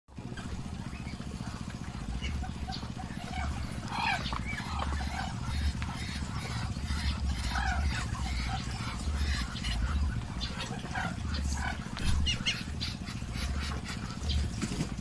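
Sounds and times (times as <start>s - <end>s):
ducks and chickens calling: 0.1s - 15.0s
steady low rumble: 0.2s - 15.0s.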